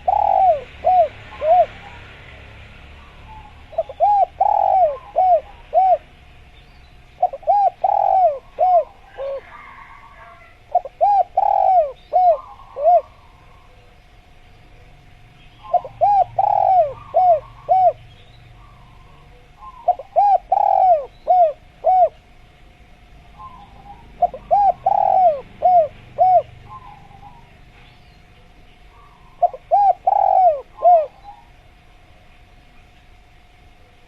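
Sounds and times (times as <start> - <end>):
dove cooing: 0.0 - 6.3, 7.2 - 14.0, 14.7 - 22.5, 23.3 - 31.6.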